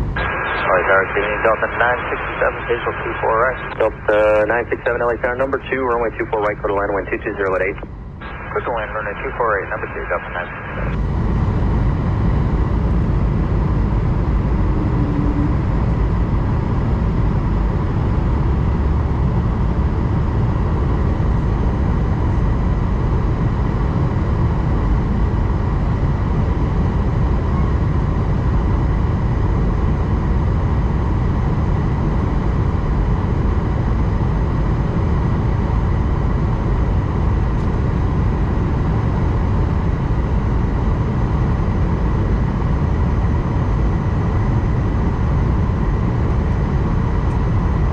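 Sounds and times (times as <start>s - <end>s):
airliner cabin rumble: 0.0s - 47.9s
faint steady whine: 0.0s - 47.9s.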